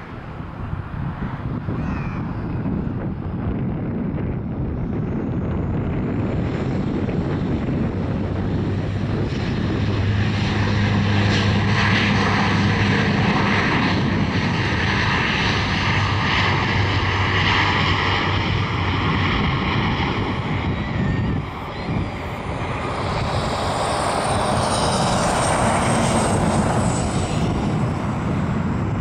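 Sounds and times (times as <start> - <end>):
turboprop propeller drone: 0.0 - 29.0.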